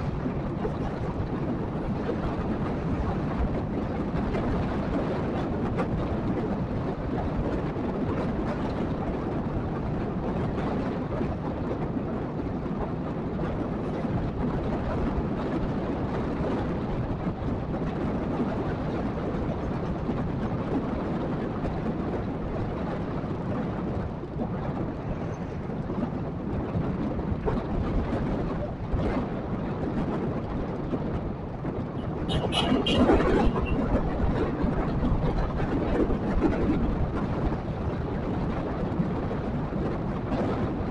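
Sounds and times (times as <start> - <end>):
vehicle rumble on the move: 0.0 - 40.9.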